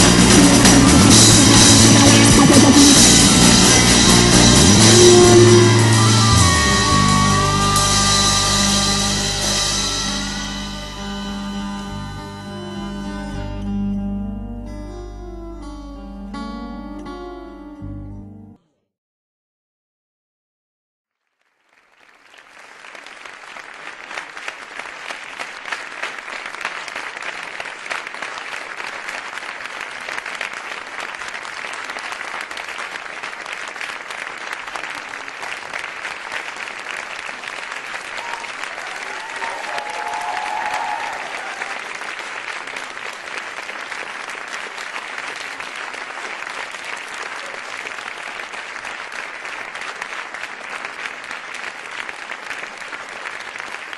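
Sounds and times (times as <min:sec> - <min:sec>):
audience applauding: 0:00.0 - 0:13.4, 0:21.3 - 0:53.9.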